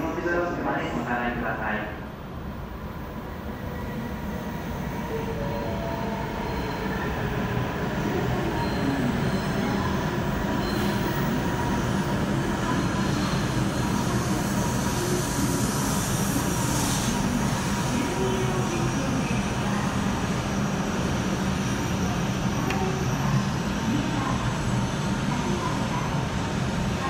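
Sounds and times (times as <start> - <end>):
train wheel and running noise: 0.0 - 27.0.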